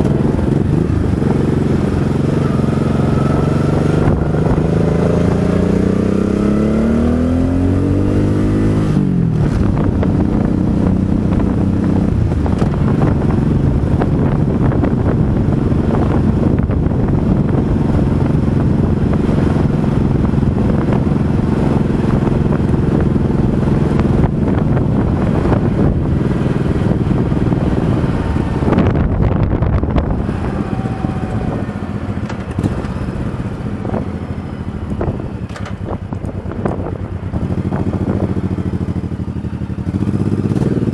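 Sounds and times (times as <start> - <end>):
motorcycle engine accelerating: 0.0 - 40.9
wind rushing: 0.0 - 40.9.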